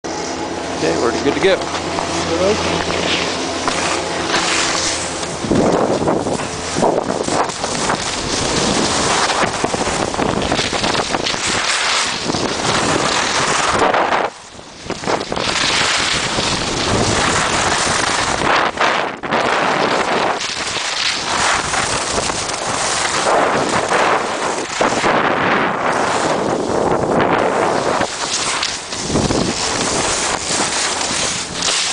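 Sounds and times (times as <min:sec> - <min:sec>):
wind buffeting microphone: 0:00.0 - 0:31.9
skis sliding on snow: 0:00.8 - 0:31.9.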